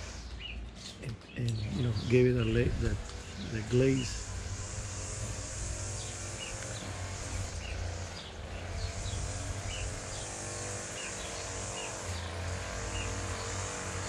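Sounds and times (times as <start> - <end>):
steady low hum: 0.0 - 14.0
small bird chirping: 0.1 - 14.0.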